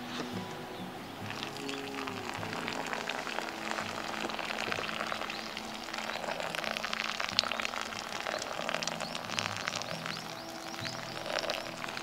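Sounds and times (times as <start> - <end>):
wet grounds crackling: 0.0 - 12.0
water splashing onto coffee: 1.3 - 12.0.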